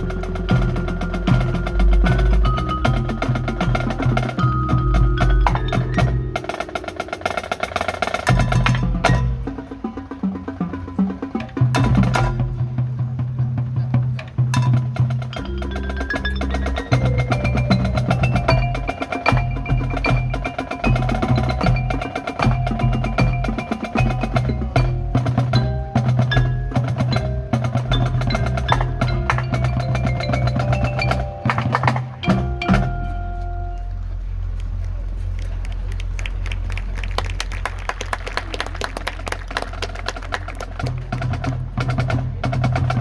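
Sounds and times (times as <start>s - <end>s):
marching band music: 0.0s - 34.5s, 36.6s - 43.0s.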